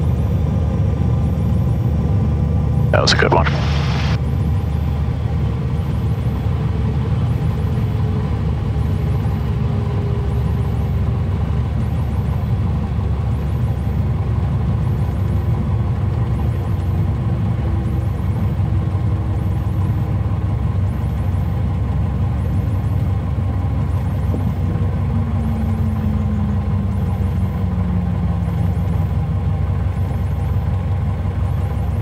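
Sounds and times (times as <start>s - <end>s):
propeller plane engine idling: 0.0s - 32.0s.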